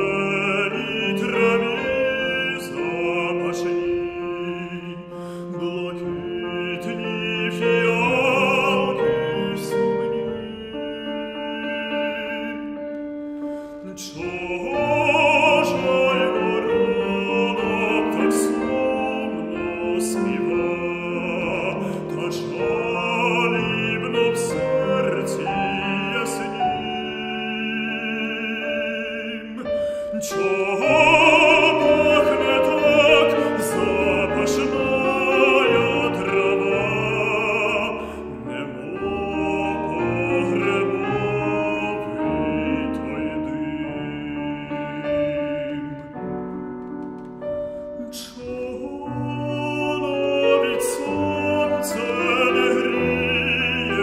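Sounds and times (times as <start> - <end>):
man singing with vibrato: 0.0 - 46.8, 47.8 - 54.0
grand piano accompaniment: 0.0 - 54.0.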